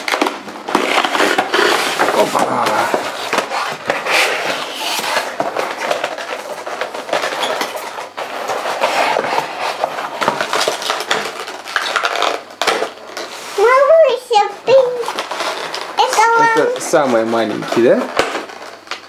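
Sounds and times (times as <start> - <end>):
cardboard and plastic rustling: 0.0 - 19.0
plastic toys clattering: 0.0 - 19.0.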